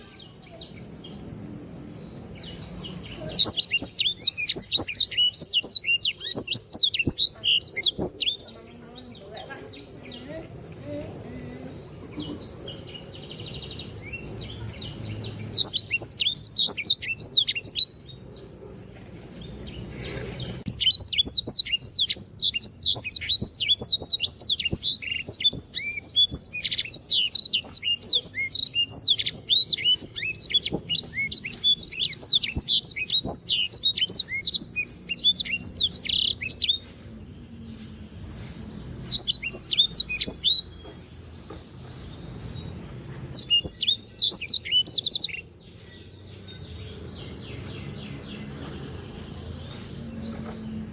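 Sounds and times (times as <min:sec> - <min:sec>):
songbird chattering song: 0:00.0 - 0:50.9.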